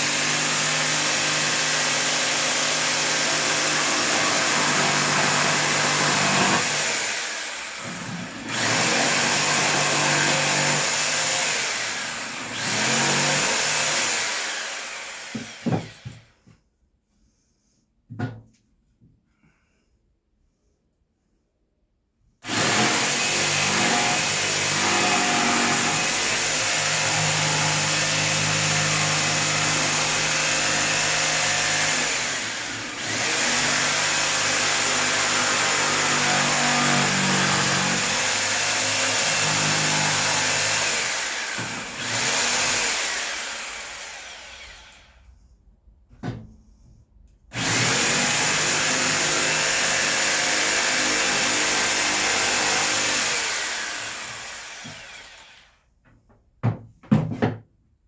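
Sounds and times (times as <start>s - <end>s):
electric power tool on wood: 0.0s - 16.2s, 22.4s - 45.2s, 47.5s - 55.8s.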